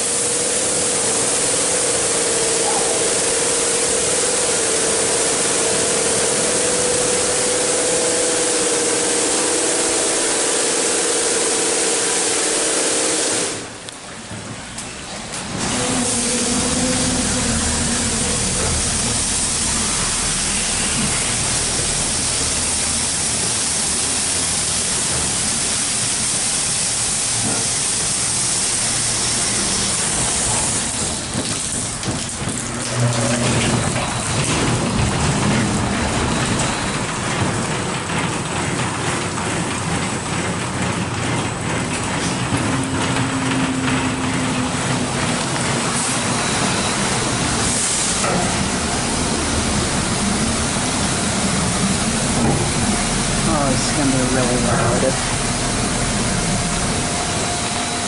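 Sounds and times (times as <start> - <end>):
low machine hum: 0.0 - 12.1, 13.6 - 58.0
car wash water spray and brushes: 0.0 - 58.0.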